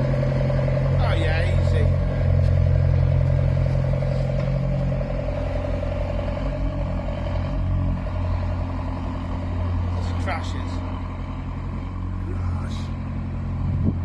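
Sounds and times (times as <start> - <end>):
barge engine throbbing: 0.0 - 14.0.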